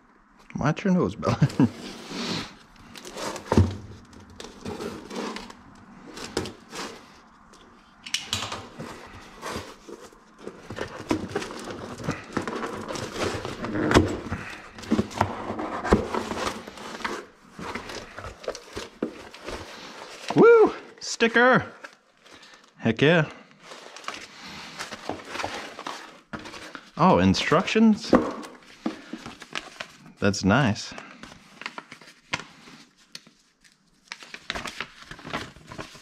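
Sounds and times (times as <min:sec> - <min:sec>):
packaging rustling and crinkling: 0:01.3 - 0:20.4, 0:23.5 - 0:30.2, 0:31.0 - 0:36.0.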